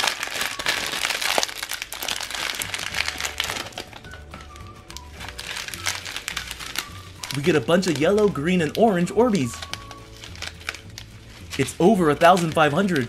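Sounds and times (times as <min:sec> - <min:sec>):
background music: 0:00.0 - 0:13.0
plastic sachets crinkling: 0:00.0 - 0:13.0.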